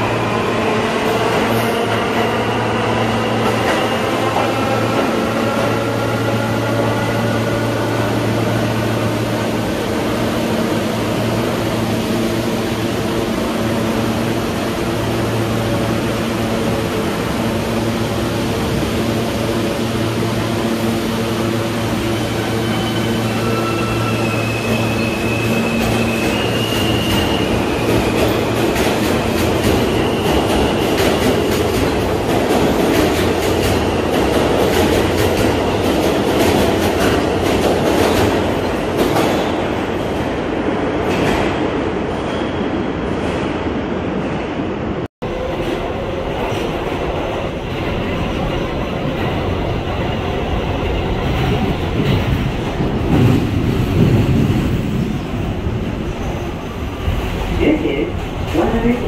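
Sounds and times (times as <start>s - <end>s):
subway train humming: 0.0s - 59.0s.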